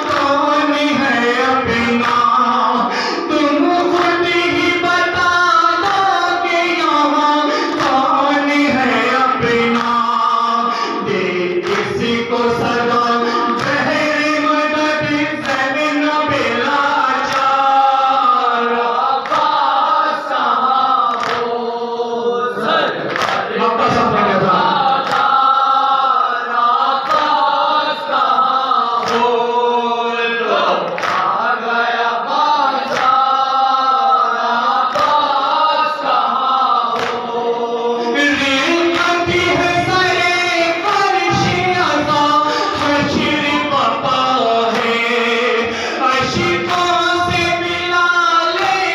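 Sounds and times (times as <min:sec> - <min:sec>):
lead reciter chanting: 0:00.0 - 0:48.9
men chanting a lament in unison: 0:00.0 - 0:48.9.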